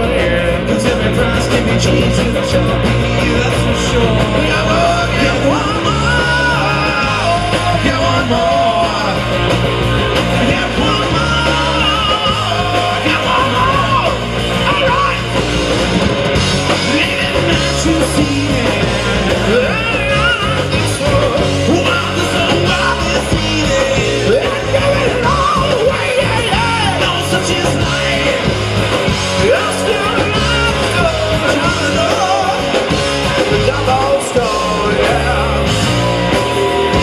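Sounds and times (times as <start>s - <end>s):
bass notes: 0.0s - 37.0s
live rock band playing: 0.0s - 37.0s.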